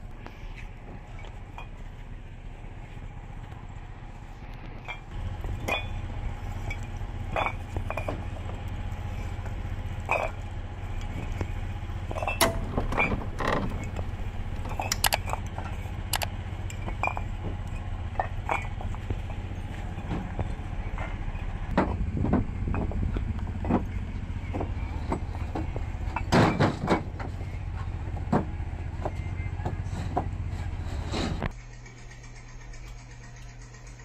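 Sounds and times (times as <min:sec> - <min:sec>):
engine humming steadily: 0:00.0 - 0:34.0
knocks and creaks: 0:04.4 - 0:34.0.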